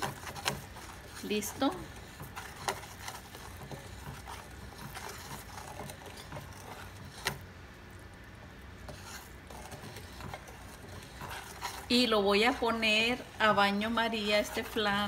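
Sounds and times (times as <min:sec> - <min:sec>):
spoon scraping in a pot: 0:00.0 - 0:07.5, 0:08.7 - 0:15.0
caramel bubbling: 0:00.0 - 0:15.0.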